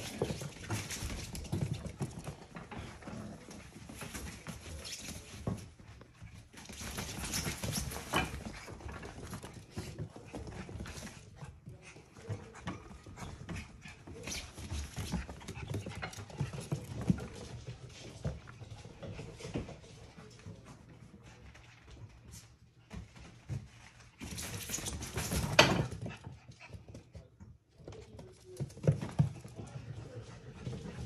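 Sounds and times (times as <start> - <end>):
puppy paws pattering on floor: 0.0 - 31.0.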